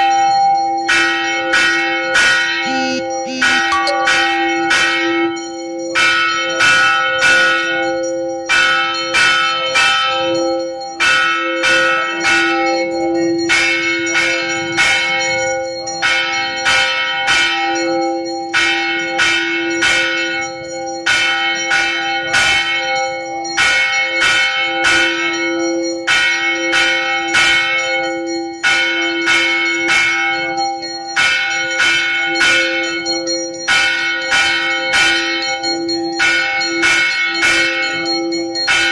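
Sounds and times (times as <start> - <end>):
temple bells ringing: 0.0 - 38.9.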